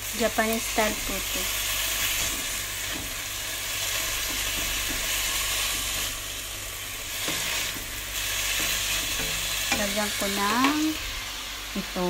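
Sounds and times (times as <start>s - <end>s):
beef sizzling in a frying pan: 0.0s - 12.0s.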